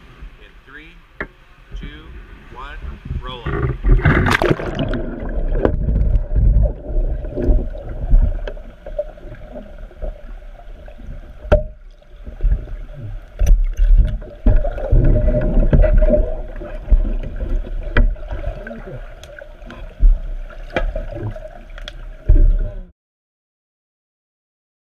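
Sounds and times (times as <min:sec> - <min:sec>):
underwater bubbling and churning: 0:01.0 - 0:22.9.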